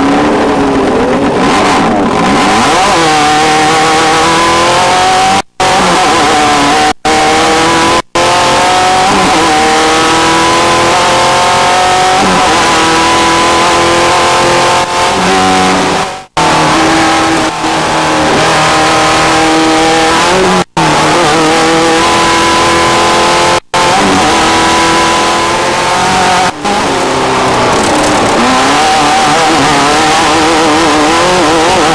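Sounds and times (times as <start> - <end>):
engines running at high revs: 0.0 - 31.9.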